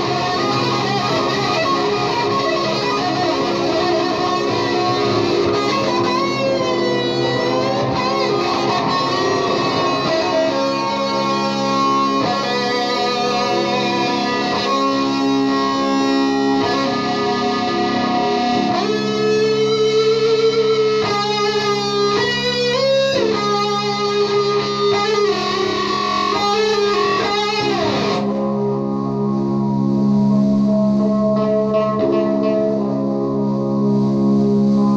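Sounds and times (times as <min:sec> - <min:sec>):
electric guitar lead notes: 0:00.0 - 0:34.9
steady looped drone: 0:00.0 - 0:34.9.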